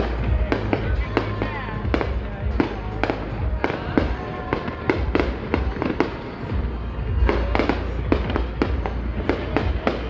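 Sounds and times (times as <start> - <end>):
fireworks bangs and pops: 0.0 - 10.0
low rumble: 0.0 - 10.0.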